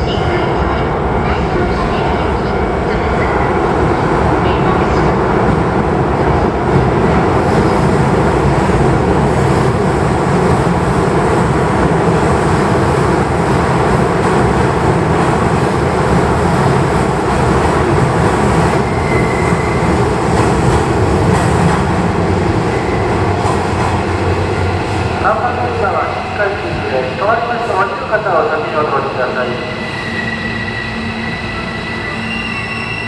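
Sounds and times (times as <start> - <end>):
train rumbling and braking: 0.0 - 33.0.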